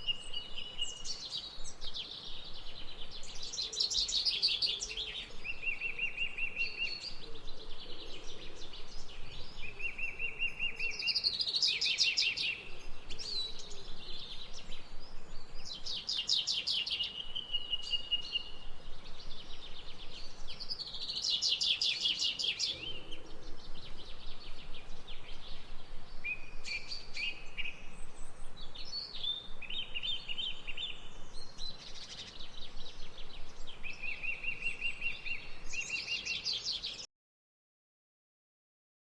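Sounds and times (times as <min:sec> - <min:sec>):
faint background hiss: 0:00.0 - 0:37.1
songbirds singing: 0:00.0 - 0:37.1.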